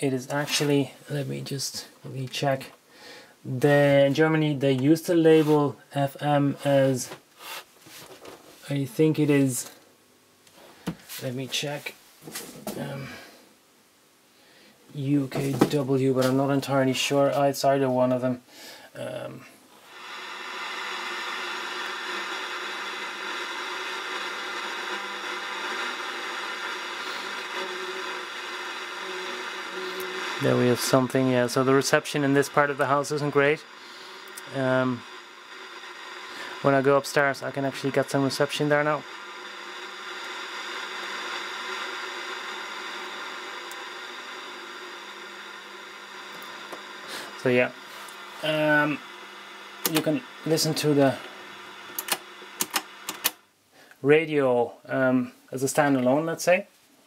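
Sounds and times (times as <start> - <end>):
radio static hiss: 0.0 - 2.8, 3.4 - 9.8, 10.5 - 13.5, 14.9 - 56.7.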